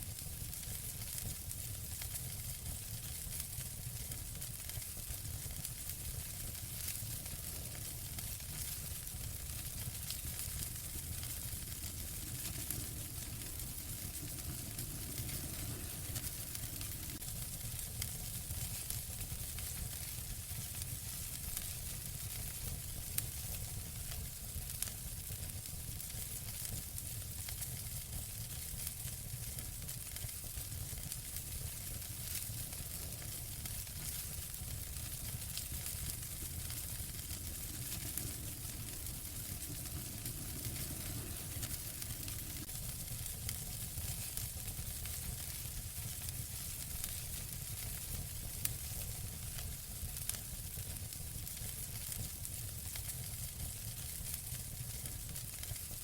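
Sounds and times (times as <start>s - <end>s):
fire crackles and pops: 0.0s - 56.0s
wood fire hissing and rumbling: 0.0s - 56.0s.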